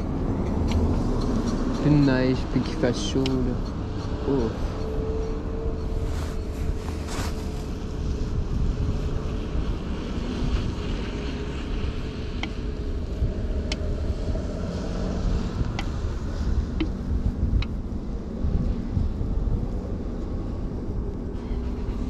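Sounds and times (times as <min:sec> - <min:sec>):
traffic noise: 0:00.0 - 0:22.0
vehicle hum: 0:00.0 - 0:22.0
wind rumbling on microphone: 0:00.0 - 0:22.0.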